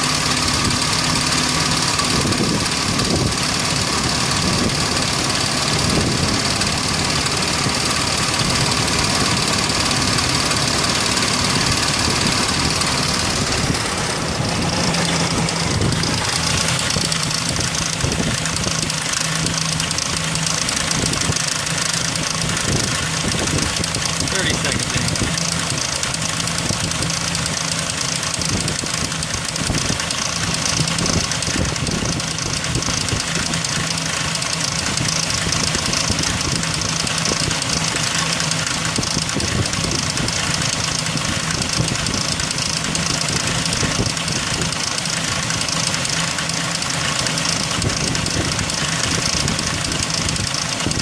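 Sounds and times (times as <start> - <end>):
engine idling: 0.0 - 51.0
fast even engine ticking: 0.0 - 51.0.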